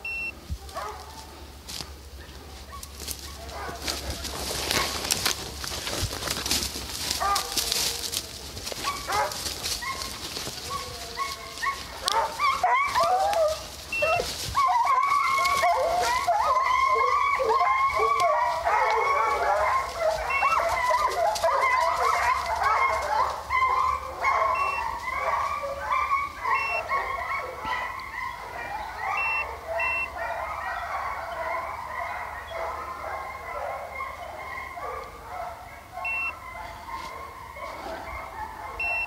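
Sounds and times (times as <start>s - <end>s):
hounds baying and yelping: 0.0s - 39.0s.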